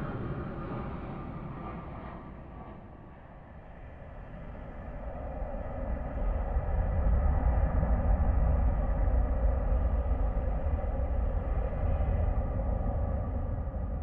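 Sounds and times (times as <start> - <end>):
jet engines in reverse thrust: 0.0 - 14.0.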